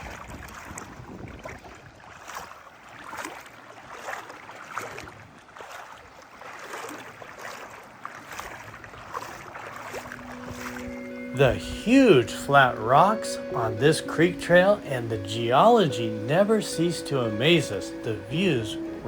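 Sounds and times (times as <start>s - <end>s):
creek water splashing: 0.0s - 19.0s.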